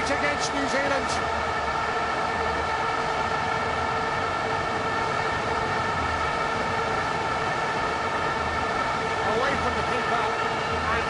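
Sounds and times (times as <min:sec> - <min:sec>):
stadium crowd noise: 0:00.0 - 0:11.0.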